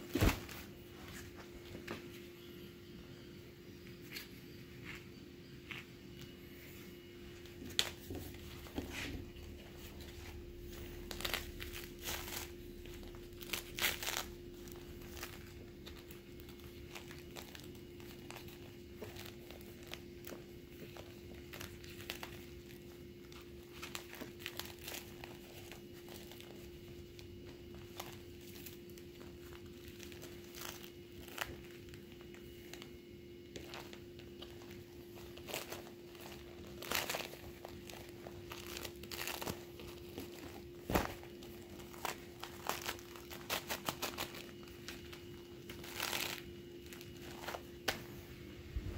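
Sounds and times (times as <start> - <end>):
faint steady hum: 0.0 - 48.9
vinyl toys crinkling and rustling: 4.0 - 48.2.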